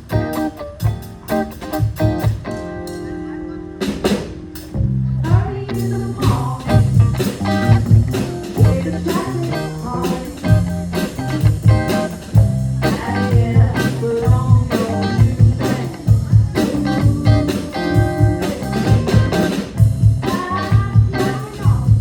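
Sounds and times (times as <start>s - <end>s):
bass: 0.0s - 22.0s
drum kit beat: 0.0s - 22.0s
guitar lines: 0.0s - 22.0s.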